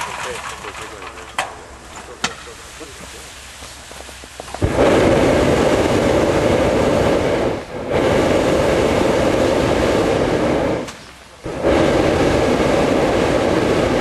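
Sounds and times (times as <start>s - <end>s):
propane burner firing: 0.0s - 14.0s.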